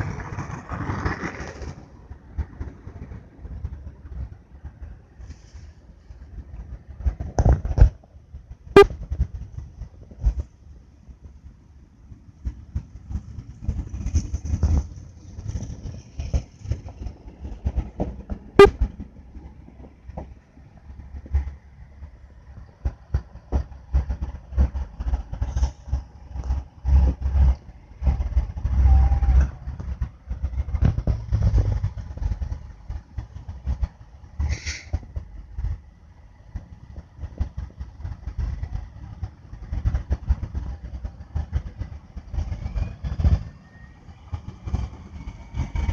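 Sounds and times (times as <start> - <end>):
low traffic rumble: 0.0 - 45.9.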